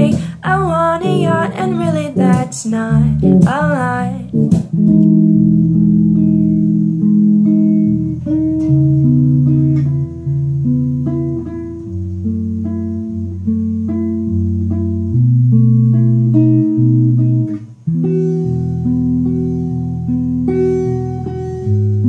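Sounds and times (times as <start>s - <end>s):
electric bass chords and notes: 0.0s - 22.0s.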